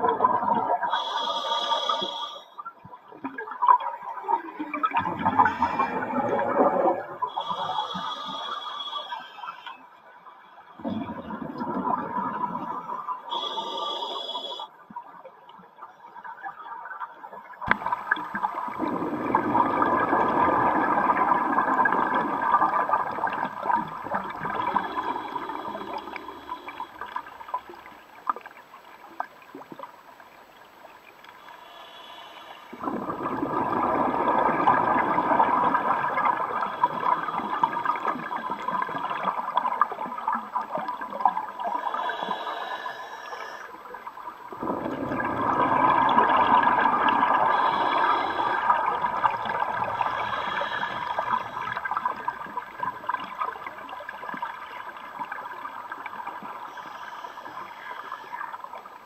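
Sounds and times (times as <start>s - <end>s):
underwater bubbles gurgling: 0.0s - 59.0s.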